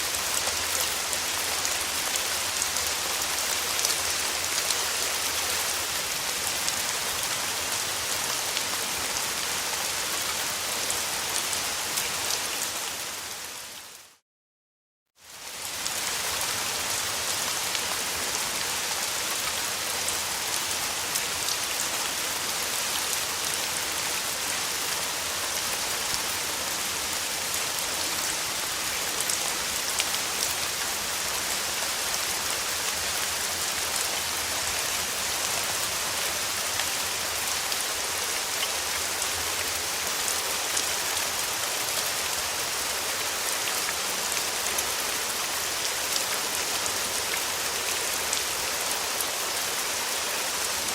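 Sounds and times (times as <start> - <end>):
steady rain falling: 0.0 - 14.2, 15.2 - 50.9.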